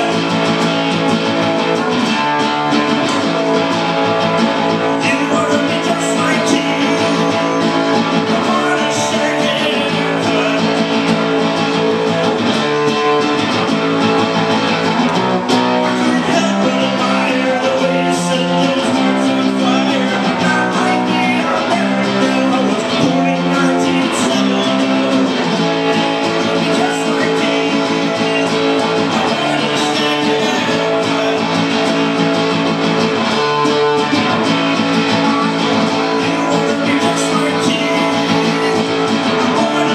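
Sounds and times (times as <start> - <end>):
acoustic guitar strummed chords: 0.0 - 39.9.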